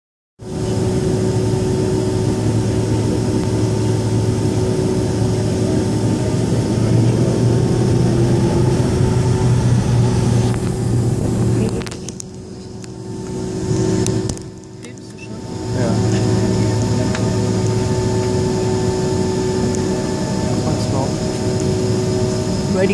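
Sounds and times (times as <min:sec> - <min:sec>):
held hum tones: 0:00.4 - 0:22.9
jet engine and airflow rumble: 0:00.4 - 0:22.9.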